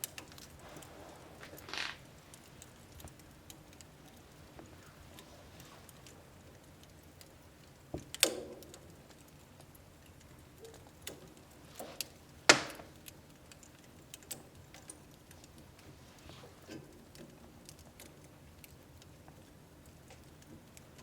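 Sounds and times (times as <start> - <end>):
wood fire crackling in stove: 0.0 - 21.0.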